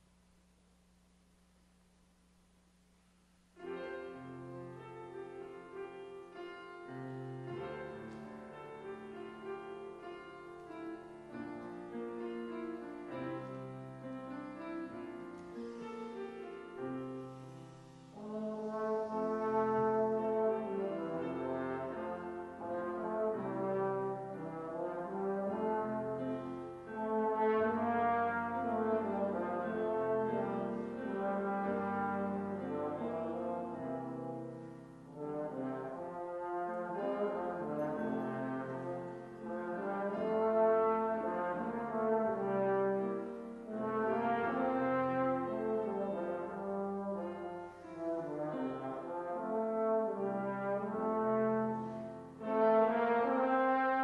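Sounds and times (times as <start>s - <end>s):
piano accompaniment: 3.4s - 54.0s
trombone melody: 3.6s - 54.0s.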